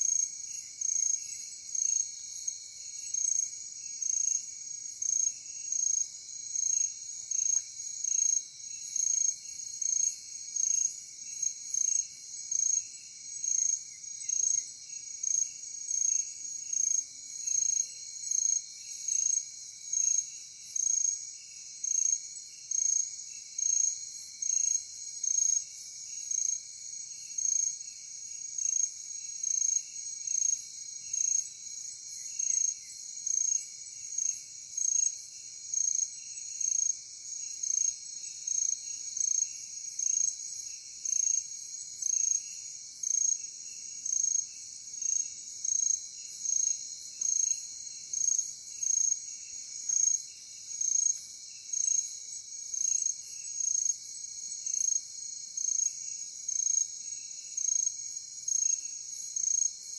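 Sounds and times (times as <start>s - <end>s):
loud high insect chirp: 0.0s - 59.9s
night insects trilling: 0.0s - 59.9s.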